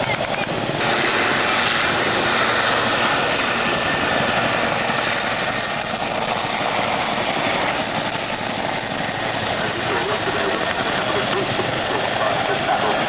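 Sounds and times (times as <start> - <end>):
helicopter rotor and turbine noise: 0.0 - 13.0.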